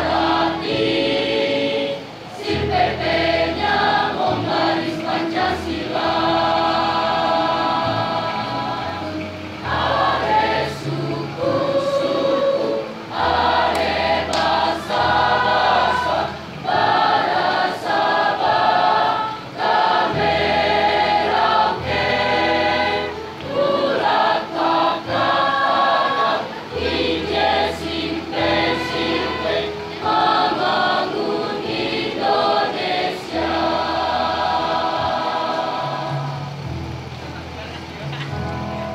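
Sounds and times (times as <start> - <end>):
choir singing: 0.0 - 36.8.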